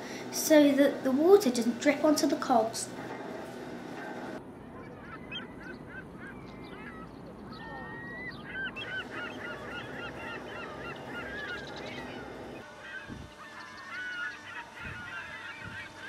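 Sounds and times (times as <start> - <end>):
birds calling: 0.0 - 16.0
steady background hum: 0.0 - 16.0.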